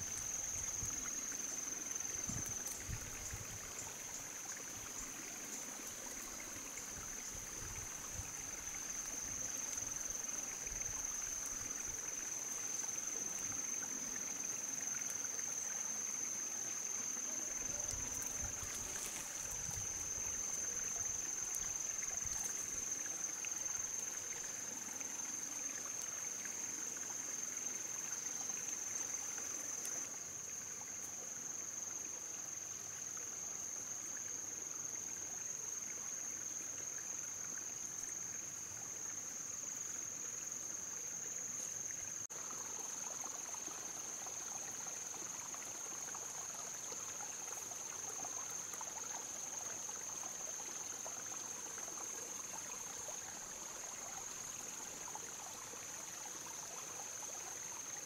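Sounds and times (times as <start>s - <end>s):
soft even hiss: 0.0s - 58.0s.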